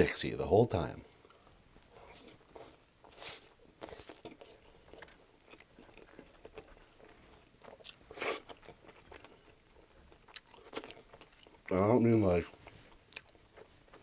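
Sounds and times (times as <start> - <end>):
chewing with wet mouth sounds: 1.1 - 14.0.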